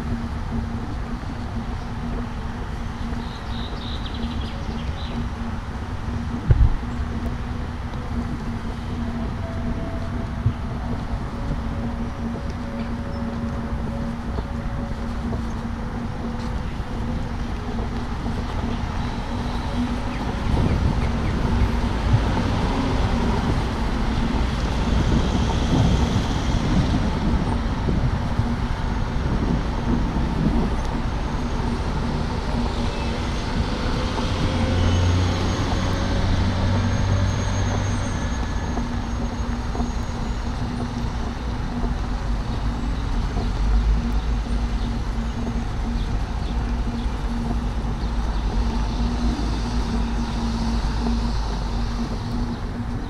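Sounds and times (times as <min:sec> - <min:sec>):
traffic road noise rumble: 0:00.0 - 0:53.0.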